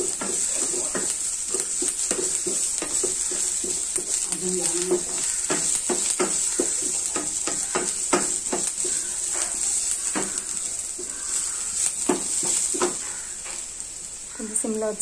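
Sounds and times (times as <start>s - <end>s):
spatula scraping pan: 0.0s - 13.4s
onions sizzling in oil: 0.0s - 15.0s.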